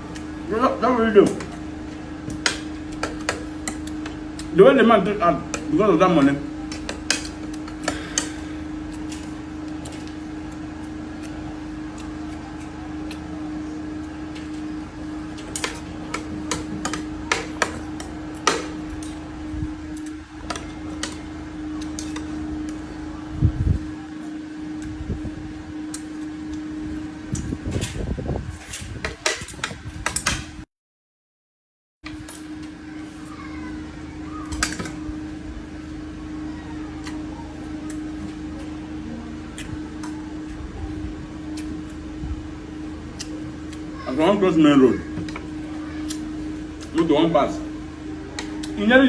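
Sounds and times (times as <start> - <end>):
electrical hum: 0.0 - 30.6, 32.0 - 49.0.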